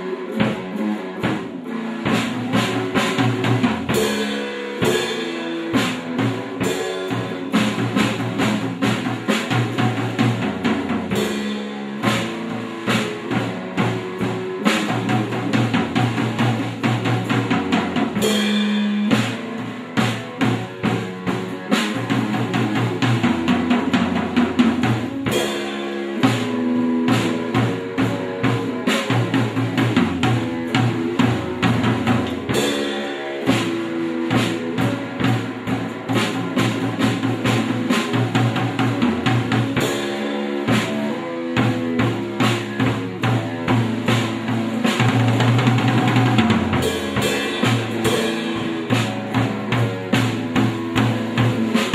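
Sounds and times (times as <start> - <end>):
instrumental band music: 0.0 - 51.9.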